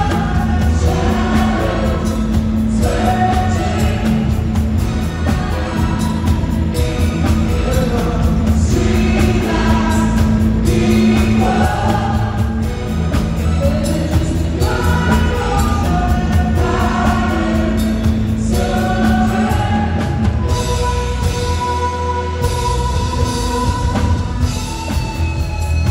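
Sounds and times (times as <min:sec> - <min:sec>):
live pop band playing: 0:00.0 - 0:25.9
vocalists singing together: 0:00.0 - 0:25.9.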